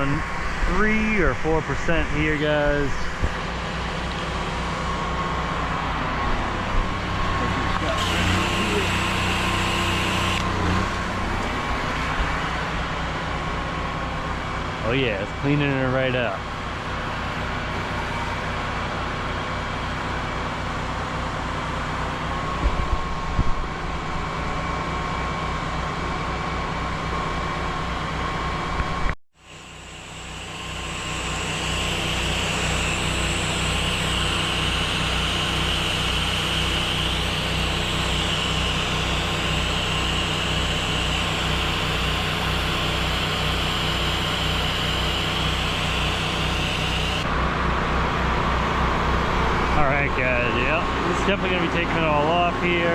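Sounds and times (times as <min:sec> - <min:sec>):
pressure washer engine running: 0:00.0 - 0:28.8, 0:29.4 - 0:52.9.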